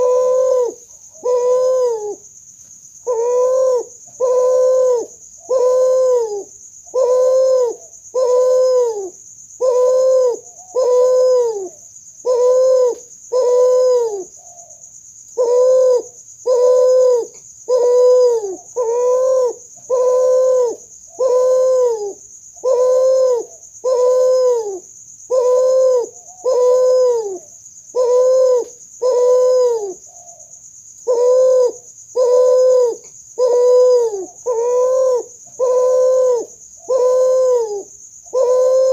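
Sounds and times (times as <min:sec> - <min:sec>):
dove cooing: 0:00.0 - 0:02.3, 0:03.0 - 0:38.9
steady high-pitched hiss: 0:00.0 - 0:38.9.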